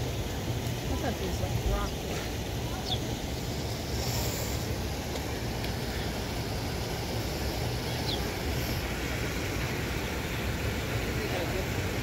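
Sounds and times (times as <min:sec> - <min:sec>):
fountain water rushing into pond: 0:00.0 - 0:12.0.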